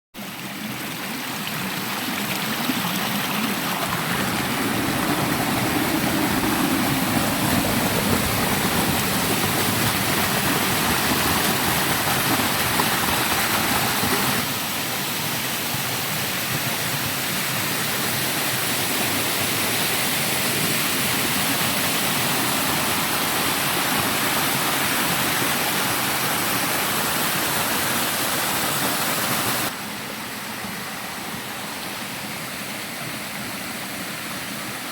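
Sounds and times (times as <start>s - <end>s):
waterfall splashing and rushing: 0.2s - 34.9s.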